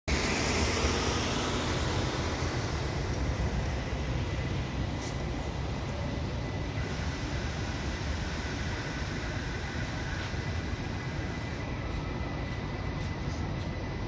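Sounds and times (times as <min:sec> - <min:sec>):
diesel train engine rumble: 0:00.1 - 0:14.0
faint high whine: 0:00.1 - 0:14.0.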